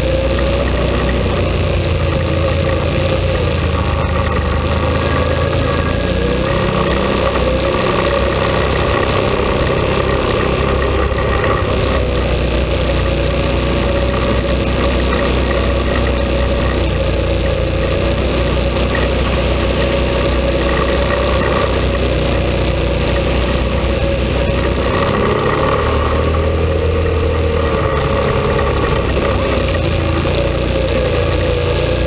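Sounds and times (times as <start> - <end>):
quad bike engine running: 0.0 - 32.0.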